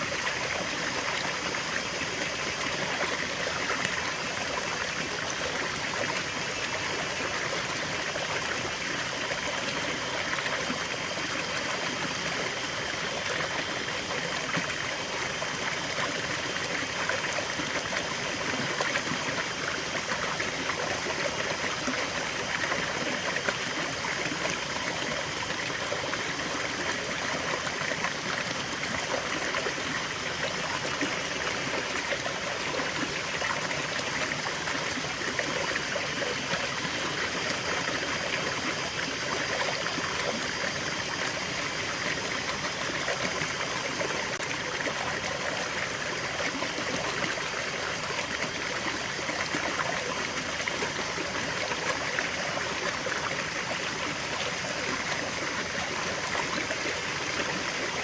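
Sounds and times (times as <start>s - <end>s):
stream flowing and trickling: 0.0s - 58.0s.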